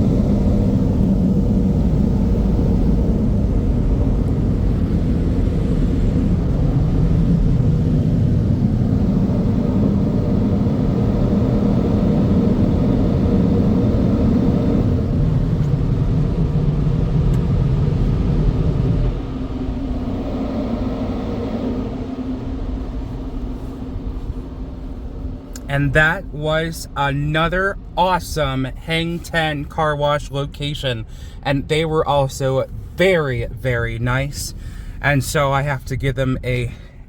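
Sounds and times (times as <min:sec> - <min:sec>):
car wash equipment rumble: 0:00.0 - 0:37.0
faint steady hum: 0:00.0 - 0:37.0.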